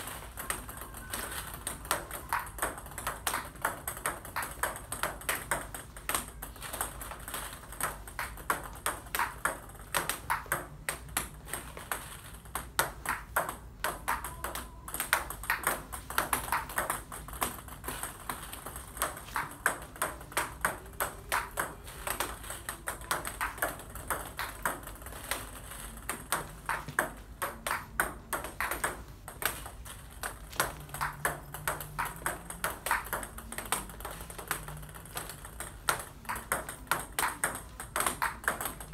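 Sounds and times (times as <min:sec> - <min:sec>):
table tennis ball clicks: 0:00.0 - 0:38.9.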